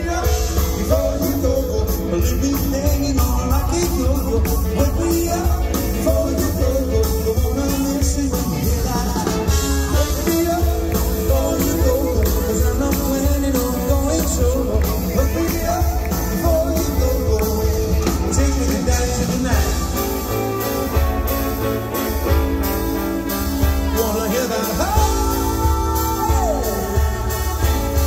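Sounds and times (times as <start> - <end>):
person singing: 0.0 - 22.4, 23.3 - 28.0
live swing band playing: 0.0 - 28.0.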